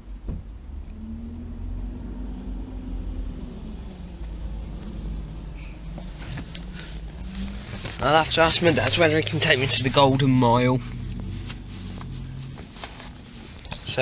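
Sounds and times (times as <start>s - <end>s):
muffled bus engine rumble: 0.0s - 14.0s.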